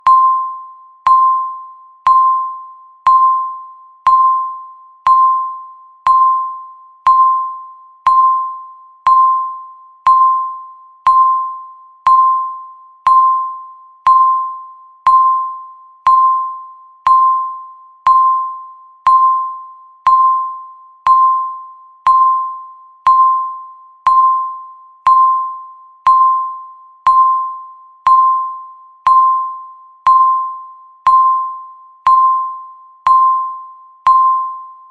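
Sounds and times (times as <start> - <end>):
countdown timer beeping: 0.0 - 34.9.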